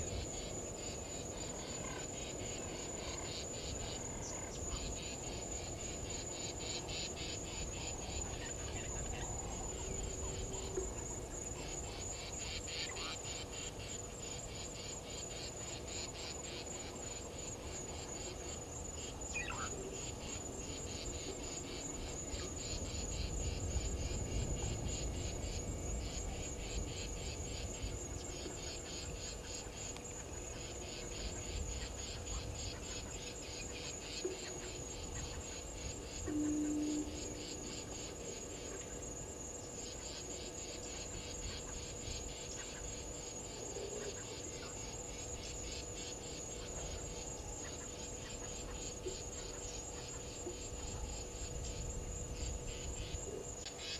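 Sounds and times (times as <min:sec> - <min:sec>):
crickets and insects trilling: 0:00.0 - 0:53.9.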